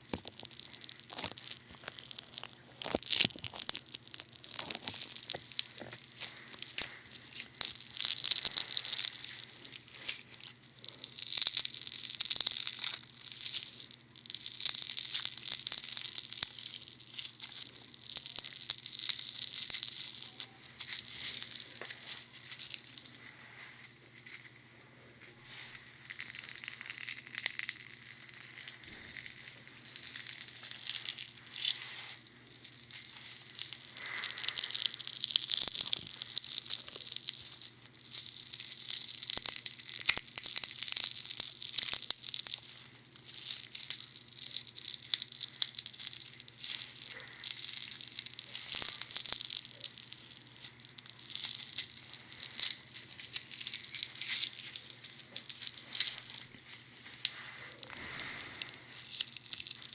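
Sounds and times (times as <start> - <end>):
foam crackling close to microphone: 0.0 - 23.2, 25.8 - 59.9.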